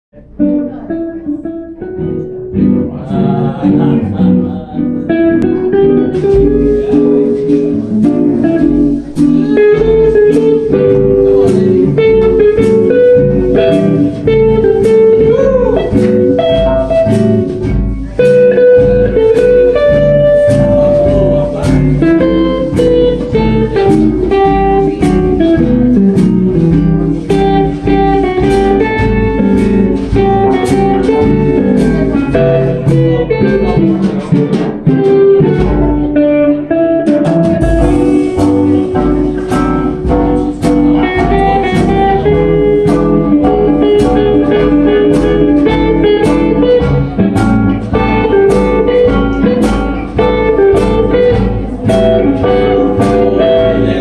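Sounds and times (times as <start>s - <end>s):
electric guitar melody: 0.1s - 54.0s
drums keeping a beat: 0.4s - 54.0s.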